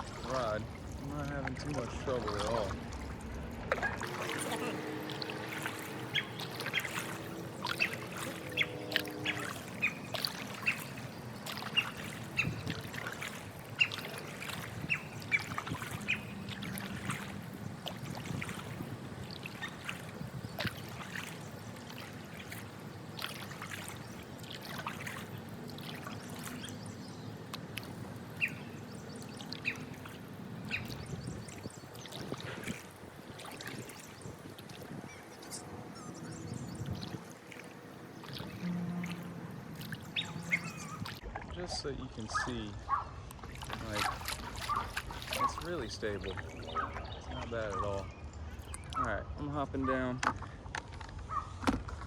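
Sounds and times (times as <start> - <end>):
water lapping: 0.0 - 52.0
water trickling and dripping: 0.0 - 52.0.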